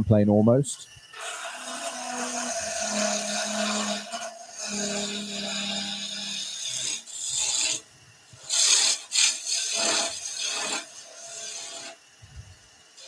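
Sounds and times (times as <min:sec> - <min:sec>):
chisel cutting spinning wood: 0:01.0 - 0:12.3.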